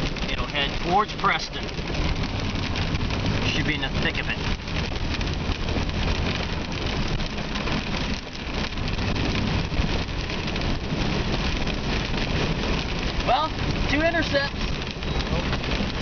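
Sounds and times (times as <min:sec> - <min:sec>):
engine and tyres rumbling: 0:00.0 - 0:16.0
heavy rain on car windshield: 0:00.0 - 0:16.0.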